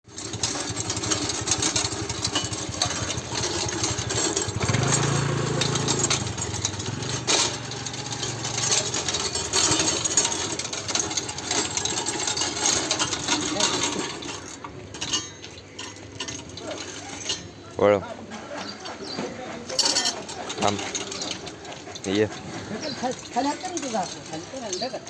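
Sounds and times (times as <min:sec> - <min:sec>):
hand tractor engine running: 0:00.1 - 0:25.0.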